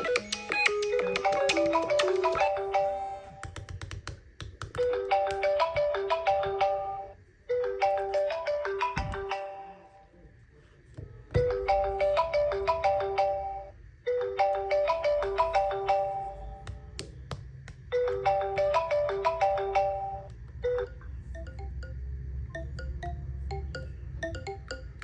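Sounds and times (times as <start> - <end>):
phone ringtone melody: 0.0 - 3.6, 4.8 - 10.0, 11.4 - 16.7, 17.9 - 25.0.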